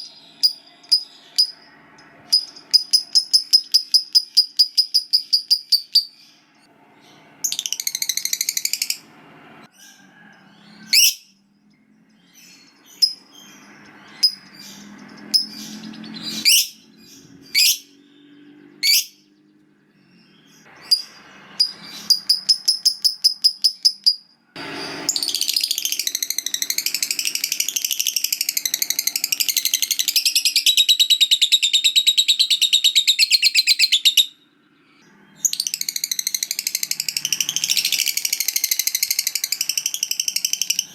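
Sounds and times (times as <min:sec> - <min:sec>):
lovebird chirping and trilling: 0:00.0 - 0:09.1, 0:10.6 - 0:11.4, 0:12.2 - 0:19.4, 0:20.0 - 0:40.9.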